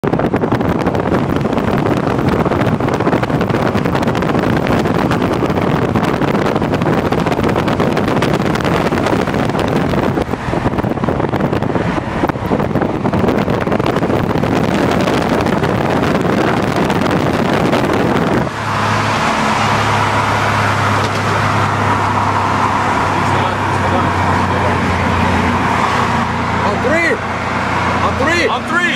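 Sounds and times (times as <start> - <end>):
road noise: 0.0 - 28.9
vehicle engine: 0.0 - 28.9
wind noise: 0.0 - 28.9.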